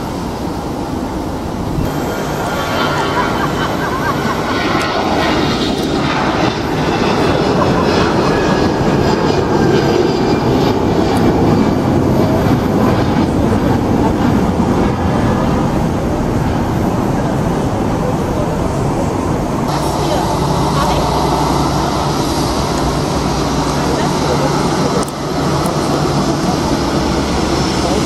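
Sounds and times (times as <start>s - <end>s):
jet engine rumble: 0.0s - 28.0s.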